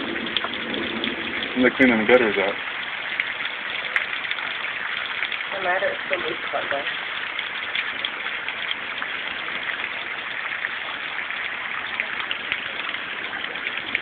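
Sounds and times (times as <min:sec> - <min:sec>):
hailstones ticking on hard surfaces: 0:00.0 - 0:14.0
heavy rain rushing: 0:00.0 - 0:14.0.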